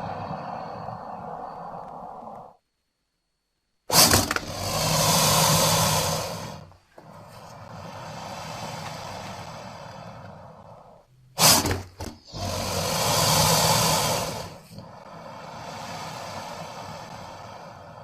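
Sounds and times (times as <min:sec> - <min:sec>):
creature breathy hisses: 0:00.0 - 0:02.6, 0:03.9 - 0:18.0.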